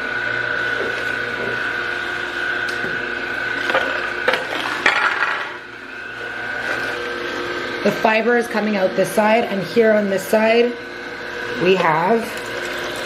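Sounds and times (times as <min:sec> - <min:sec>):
juicer motor whine: 0:00.0 - 0:13.0.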